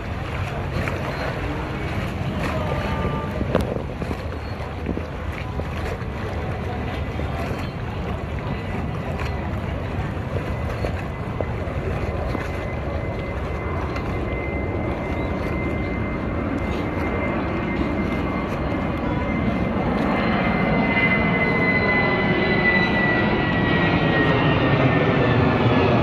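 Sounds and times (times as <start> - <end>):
jet ski engine running: 0.0 - 26.0
wind buffeting microphone: 0.0 - 26.0.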